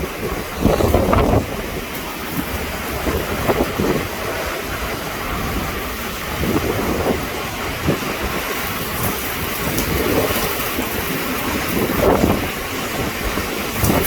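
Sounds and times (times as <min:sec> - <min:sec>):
deep thunder rumble: 0:00.0 - 0:14.0
heavy rain: 0:00.0 - 0:14.0
strong wind gusts: 0:00.0 - 0:14.0.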